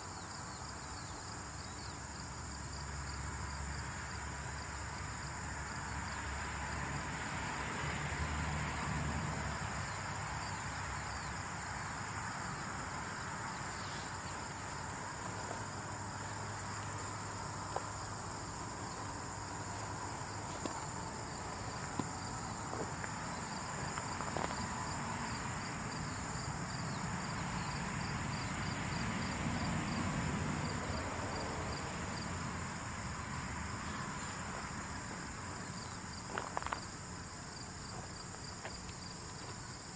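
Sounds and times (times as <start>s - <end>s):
high insect drone: 0.0s - 39.9s
rapid cricket-like chirping: 0.0s - 39.9s.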